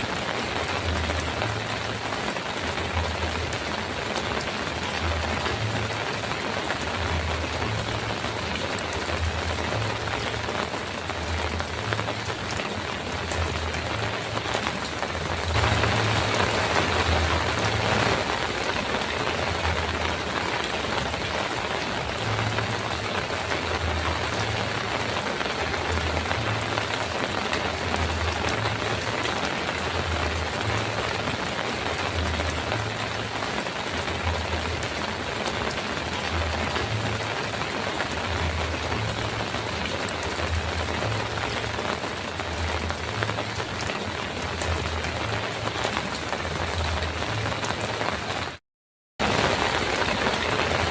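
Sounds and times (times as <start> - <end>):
heavy rain on a metal roof: 0.0 - 48.6, 49.2 - 50.9.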